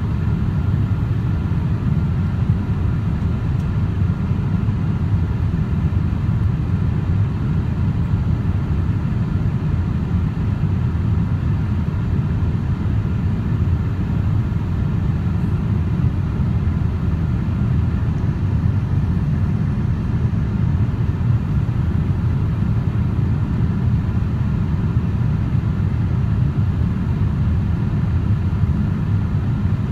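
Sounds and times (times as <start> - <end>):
aircraft cabin engine rumble: 0.0 - 29.9.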